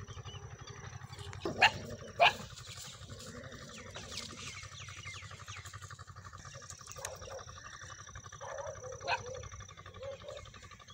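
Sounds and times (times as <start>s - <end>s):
birds chirping: 0.0s - 10.9s
rough bird calls: 0.0s - 10.9s.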